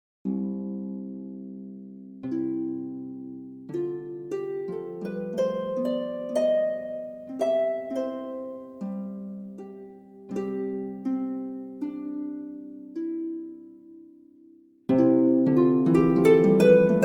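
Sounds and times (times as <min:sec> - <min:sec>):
plucked harp-like music: 0:00.3 - 0:17.0.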